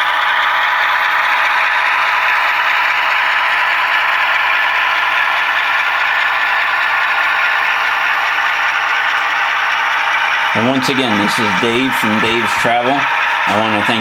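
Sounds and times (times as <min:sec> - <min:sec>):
model locomotive running: 0:00.0 - 0:14.0.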